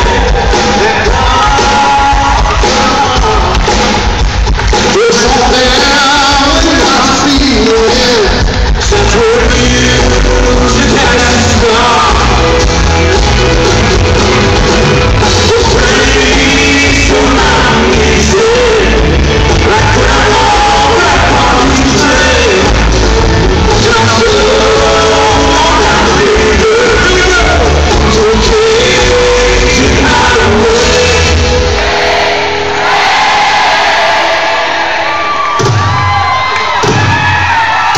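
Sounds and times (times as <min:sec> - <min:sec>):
lead vocals singing: 0:00.0 - 0:04.0, 0:04.9 - 0:13.1, 0:15.2 - 0:23.0, 0:23.6 - 0:35.4
live country band playing: 0:00.0 - 0:37.9.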